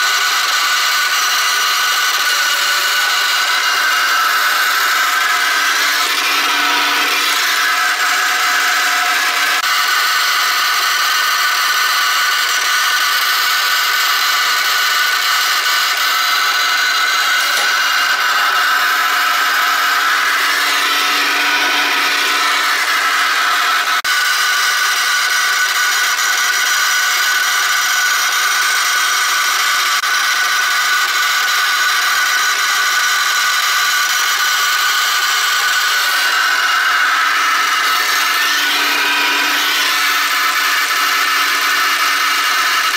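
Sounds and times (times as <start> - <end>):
machine whirring with high tones: 0.0 - 42.9.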